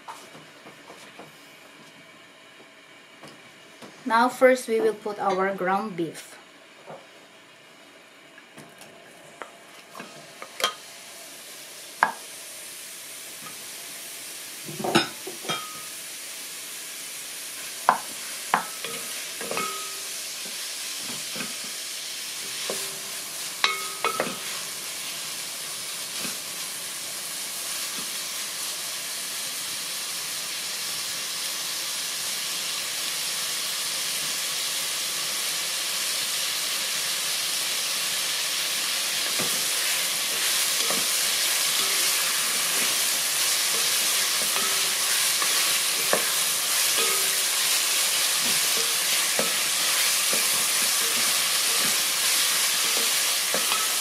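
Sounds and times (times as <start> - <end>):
meat sizzling in a pot: 9.4 - 54.0.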